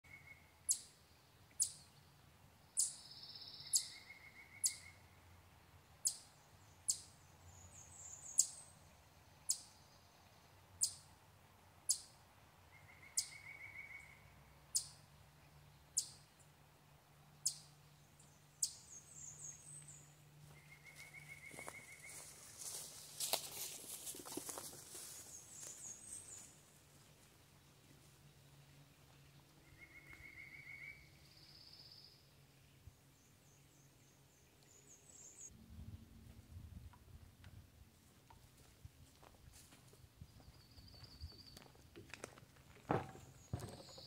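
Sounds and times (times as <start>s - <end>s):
other birdsong: 0.0s - 36.2s, 39.8s - 41.9s, 42.8s - 44.0s.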